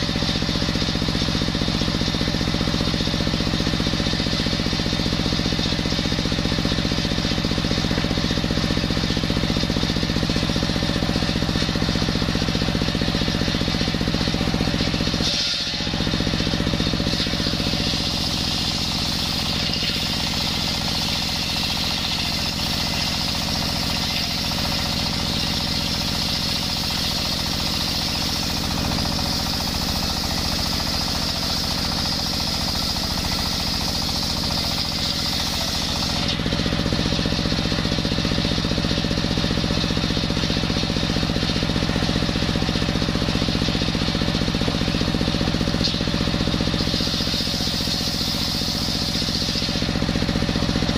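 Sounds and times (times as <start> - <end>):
diesel engine running: 0.0 - 50.9
circular saw cutting log: 8.5 - 50.9.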